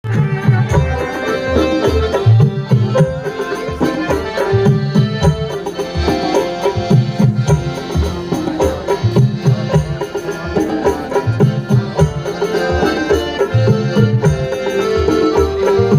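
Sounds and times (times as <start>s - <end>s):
loud music with drum beats: 0.0s - 15.9s.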